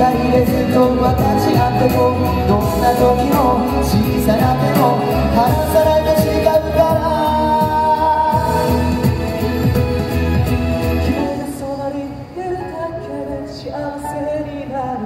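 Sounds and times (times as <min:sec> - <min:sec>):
backing track with steady beat: 0:00.0 - 0:12.9
male vocal group singing pop song: 0:00.0 - 0:15.0.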